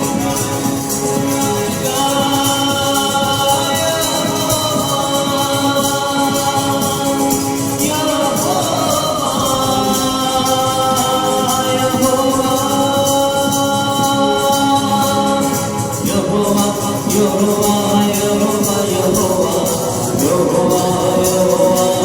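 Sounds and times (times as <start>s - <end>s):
devotional singing over a beat: 0.0s - 22.0s
tambourine: 0.0s - 22.0s.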